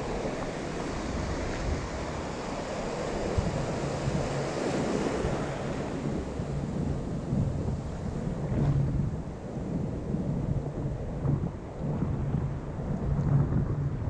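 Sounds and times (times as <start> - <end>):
surf breaking in shallow water: 0.0 - 14.0
wind buffeting microphone: 0.0 - 14.0.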